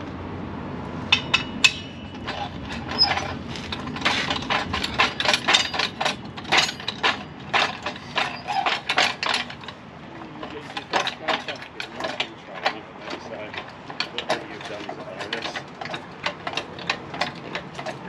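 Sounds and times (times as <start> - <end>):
workshop equipment clicks and knocks: 1.0 - 18.0.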